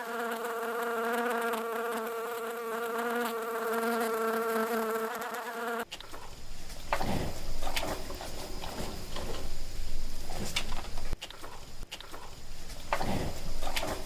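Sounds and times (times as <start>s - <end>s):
insect buzzing: 0.0s - 14.0s.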